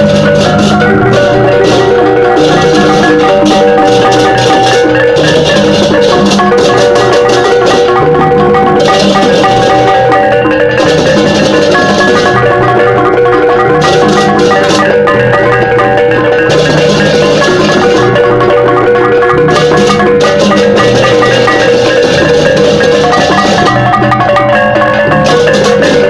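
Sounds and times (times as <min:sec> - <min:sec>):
gamelan music: 0:00.0 - 0:26.0.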